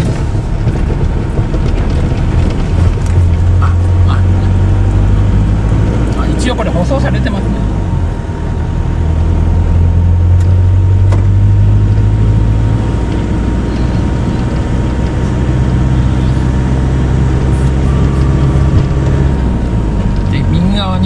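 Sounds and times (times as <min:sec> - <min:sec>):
truck engine drone: 0:00.0 - 0:21.0
tyre and road noise: 0:00.0 - 0:21.0.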